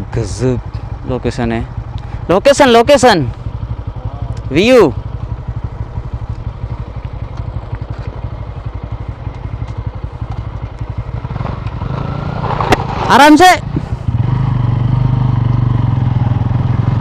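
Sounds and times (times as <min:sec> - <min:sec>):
motorcycle engines idling: 0:00.0 - 0:17.0.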